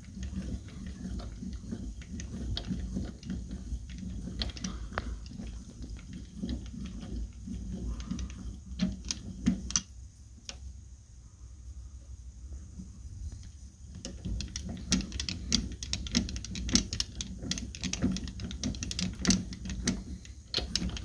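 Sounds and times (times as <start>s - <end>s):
lathe gears clicking and ticking: 0.0s - 10.7s, 13.3s - 21.0s.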